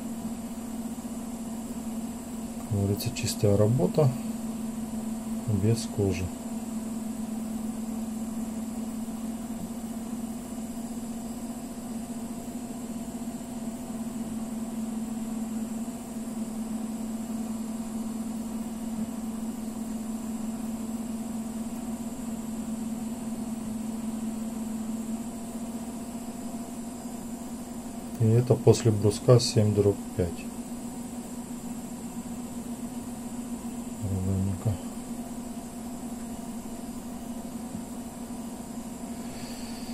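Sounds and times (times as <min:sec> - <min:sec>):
faint high-pitched whine: 0:00.0 - 0:39.9
steady machine hum: 0:00.0 - 0:39.9.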